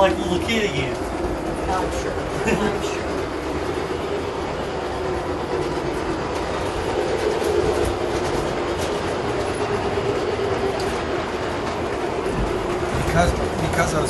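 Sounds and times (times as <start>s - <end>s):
wheels clicking over rails: 0.0s - 14.0s.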